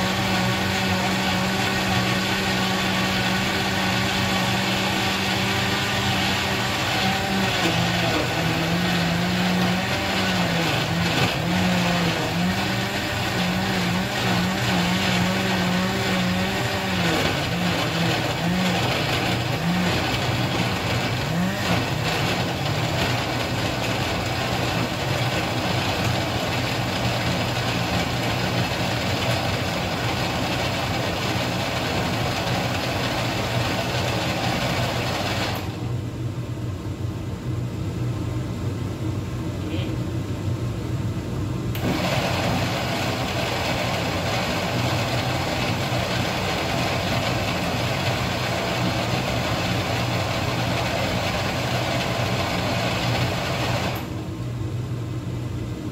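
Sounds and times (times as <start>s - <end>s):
electric blender grinding: 0.0s - 35.8s, 41.8s - 54.2s.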